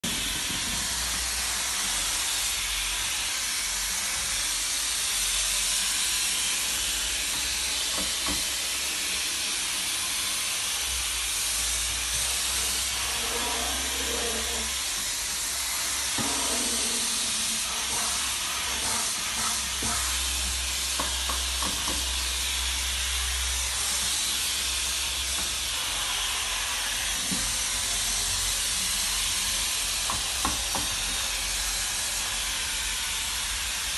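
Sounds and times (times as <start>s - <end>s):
steam cleaner hissing: 0.0s - 33.9s.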